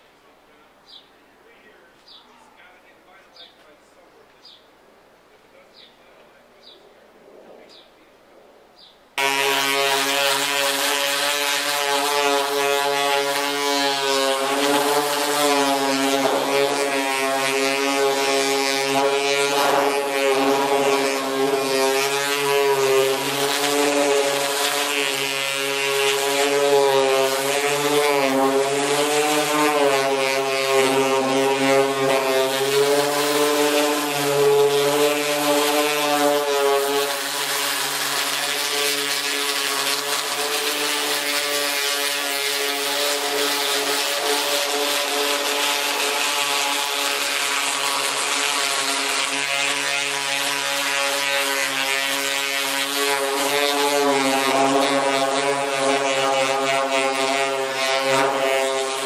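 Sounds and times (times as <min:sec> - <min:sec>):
orbital sander on metal: 0:09.2 - 0:59.0.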